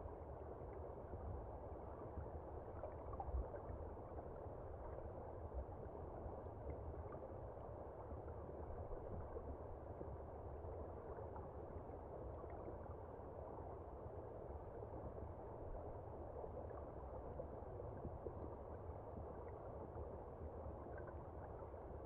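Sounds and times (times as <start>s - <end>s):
underwater river rushing and gurgling: 0.1s - 22.0s.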